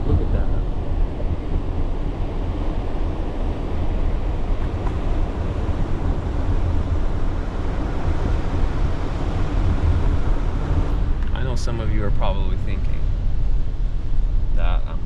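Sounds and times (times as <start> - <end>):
car driving rumble: 0.0 - 15.0
wind noise: 0.0 - 15.0.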